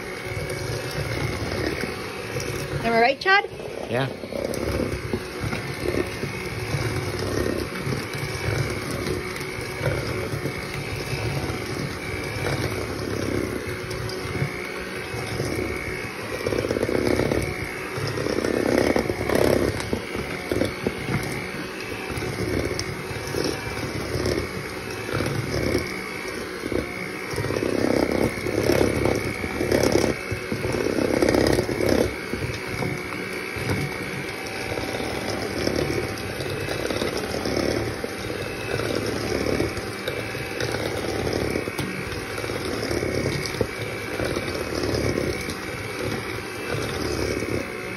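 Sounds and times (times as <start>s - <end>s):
electric hand mixer running: 0.0s - 47.9s.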